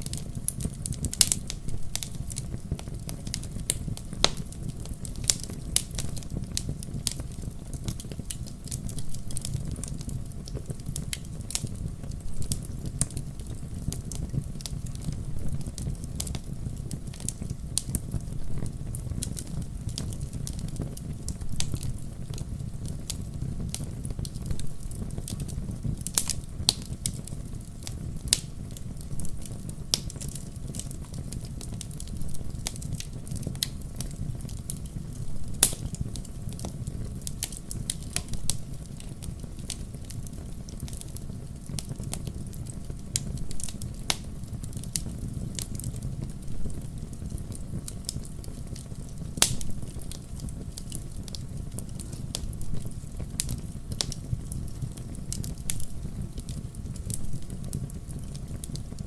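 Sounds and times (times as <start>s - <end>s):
wood campfire crackling: 0.0s - 59.0s.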